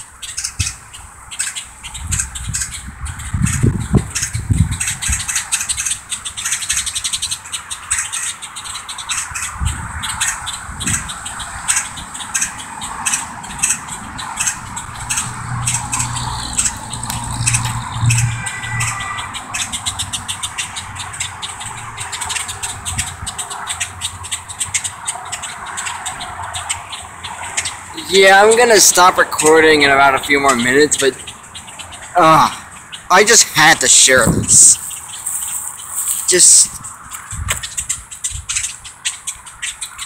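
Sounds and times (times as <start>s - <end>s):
flock of birds chattering: 0.0s - 40.0s
low hum of highway traffic: 0.0s - 40.0s.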